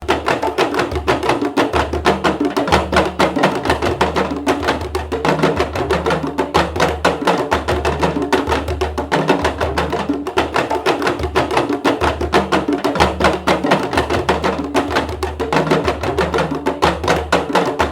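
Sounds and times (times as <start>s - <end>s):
drum beat: 0.0s - 17.9s.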